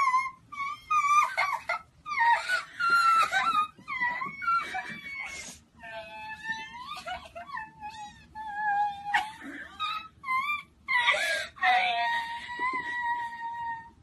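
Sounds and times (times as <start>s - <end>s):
girl wailing sobs: 0.0s - 14.0s.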